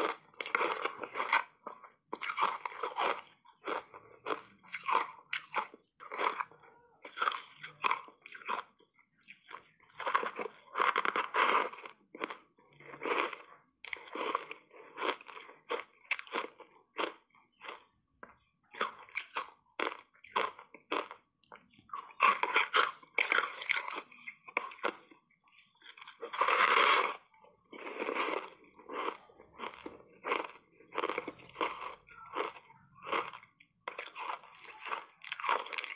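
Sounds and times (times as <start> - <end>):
ice being bitten and chewed: 0.0 - 35.9.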